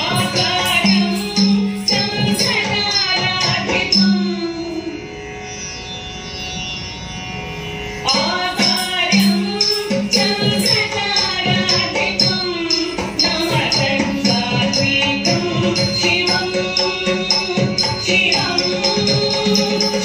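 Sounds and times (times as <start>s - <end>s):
percussion strokes: 0.0s - 4.8s, 8.0s - 20.0s.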